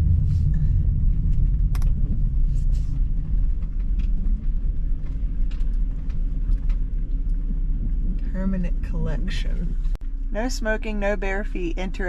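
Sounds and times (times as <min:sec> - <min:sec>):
van road and engine rumble: 0:00.0 - 0:12.0.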